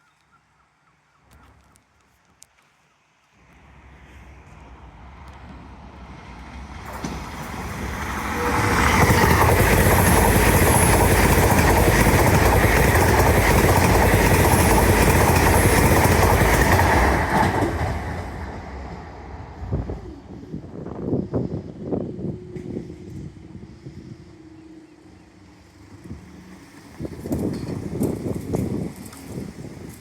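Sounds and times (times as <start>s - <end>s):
train passing roar: 3.4s - 30.0s.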